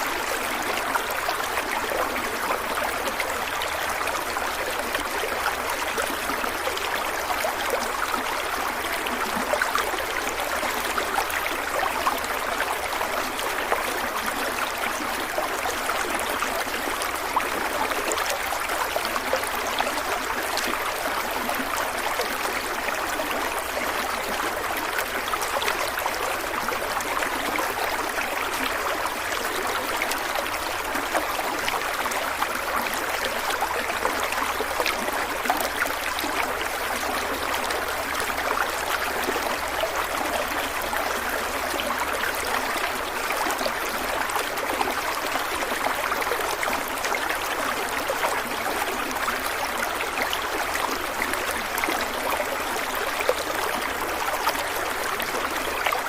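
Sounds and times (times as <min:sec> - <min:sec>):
stream water running over rocks: 0:00.0 - 0:56.0.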